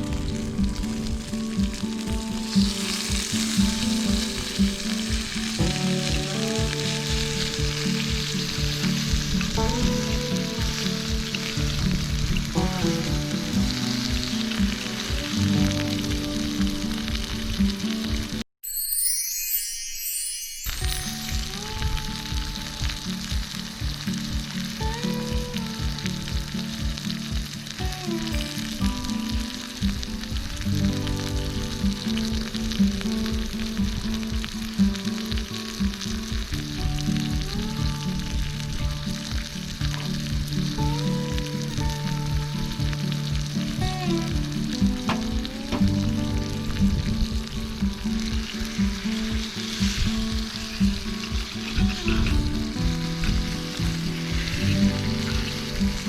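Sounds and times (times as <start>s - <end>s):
background music with steady beat: 0.0s - 18.4s, 20.8s - 56.0s
food sizzling in a pan: 0.0s - 56.0s.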